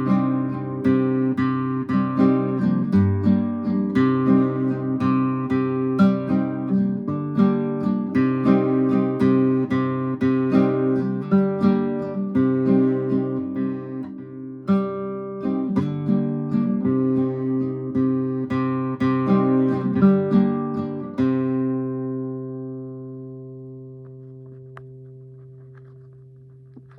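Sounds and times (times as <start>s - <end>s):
nylon-string guitar strummed: 0.0s - 26.9s.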